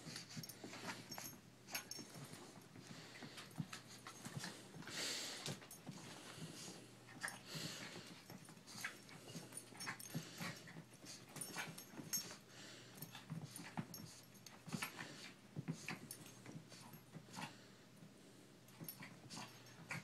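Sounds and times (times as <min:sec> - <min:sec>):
scuffling of paws and bodies: 0:00.0 - 0:17.6.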